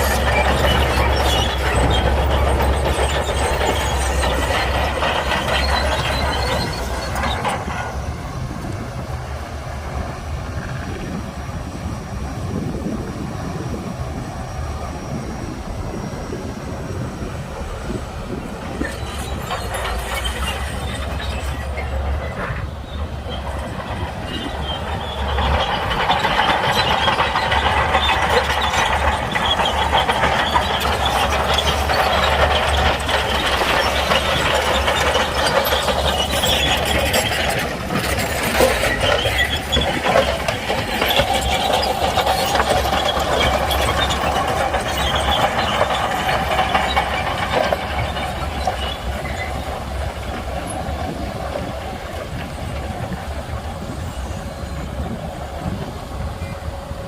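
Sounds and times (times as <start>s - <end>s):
bulldozer diesel engine: 0.0s - 57.0s
steel tracks clanking and squealing: 0.0s - 57.0s.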